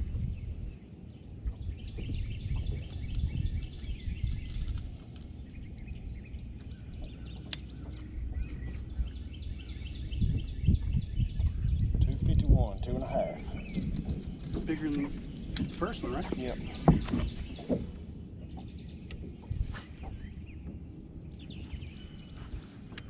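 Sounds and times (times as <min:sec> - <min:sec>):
songbird singing rapid chirps: 0:00.0 - 0:23.0
wind rumble on microphone: 0:00.0 - 0:23.0.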